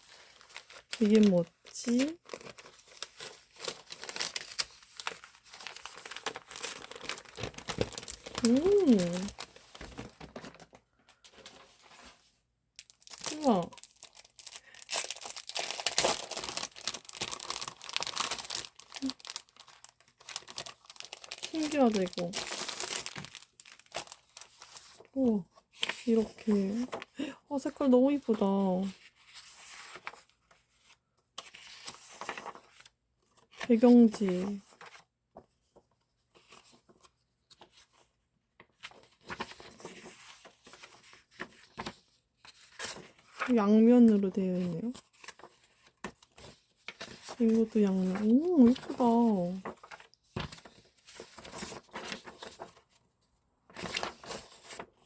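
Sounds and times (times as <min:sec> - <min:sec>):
paper crinkling and rustling: 0:00.0 - 0:27.1, 0:27.7 - 0:53.1, 0:53.7 - 0:55.0.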